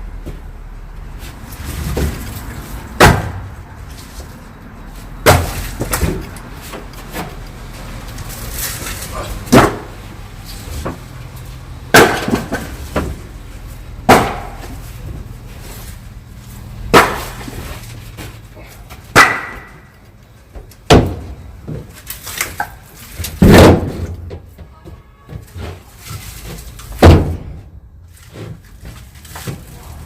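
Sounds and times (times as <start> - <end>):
firewood logs knocking down: 1.6 - 4.3, 5.2 - 7.4, 8.0 - 11.2, 11.8 - 13.4, 14.0 - 16.0, 16.9 - 19.9, 20.6 - 30.0.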